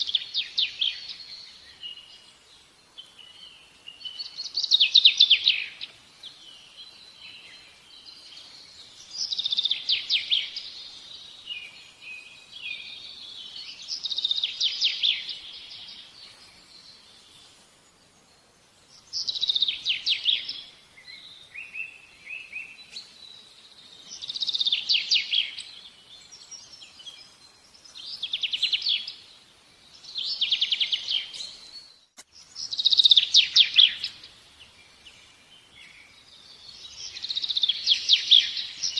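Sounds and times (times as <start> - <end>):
bird singing trilled phrases: 0.0 - 17.6, 18.2 - 38.9.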